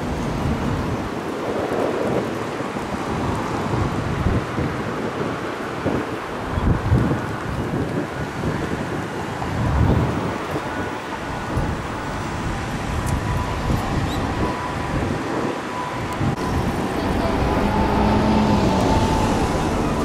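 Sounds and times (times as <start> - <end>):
city street traffic: 0.0 - 20.0
wind buffeting microphone: 0.0 - 20.0.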